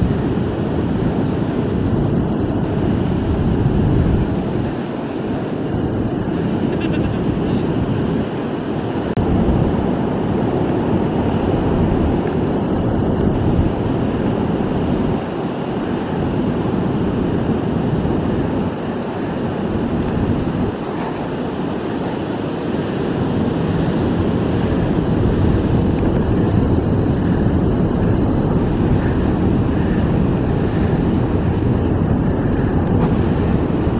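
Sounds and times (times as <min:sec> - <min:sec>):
ocean surf rushing: 0:00.0 - 0:33.9
wind on microphone: 0:00.0 - 0:33.9.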